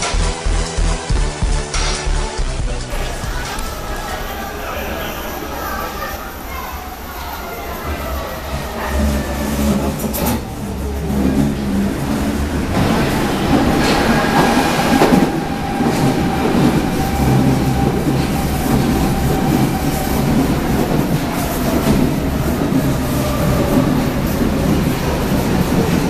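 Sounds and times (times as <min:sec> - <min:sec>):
subway train rumble: 0:00.0 - 0:26.0.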